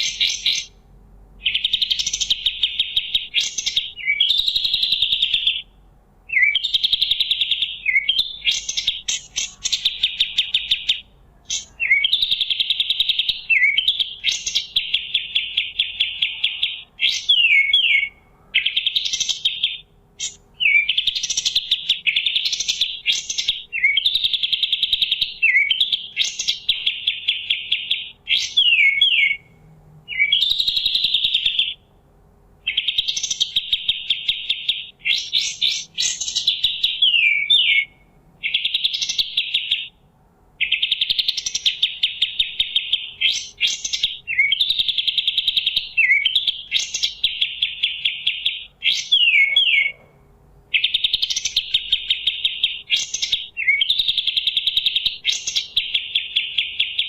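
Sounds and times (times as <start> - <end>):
songbird buzzy chattering trill: 0.0 - 0.8, 1.4 - 29.5, 30.1 - 31.8, 32.6 - 40.0, 40.6 - 57.0.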